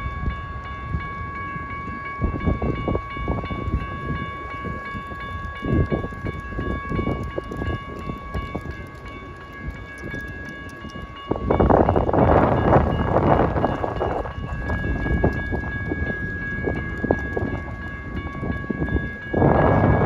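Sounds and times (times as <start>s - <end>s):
crossing warning bells ringing: 0.0s - 20.0s.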